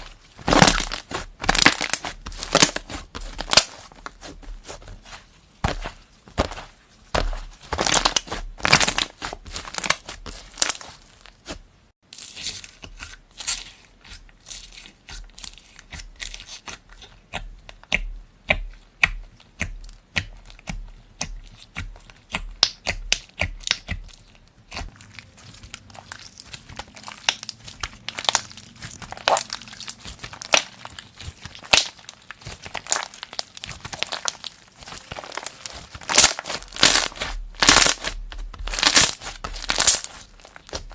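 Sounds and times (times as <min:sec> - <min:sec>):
slime crackling and squelching: 0:00.0 - 0:17.4, 0:19.0 - 0:40.9.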